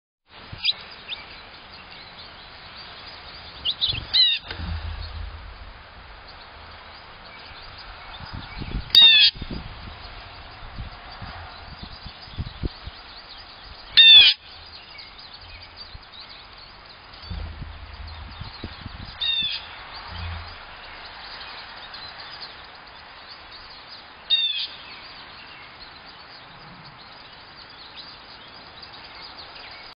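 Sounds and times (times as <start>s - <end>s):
blue jay calling: 5.5s - 29.6s.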